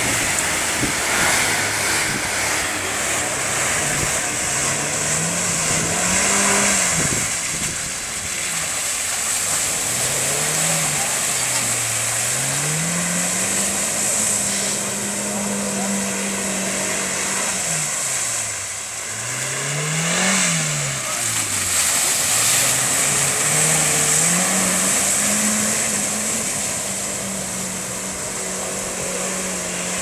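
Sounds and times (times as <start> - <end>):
engine revving: 0.0 - 30.0
mud and water spraying: 0.0 - 30.0.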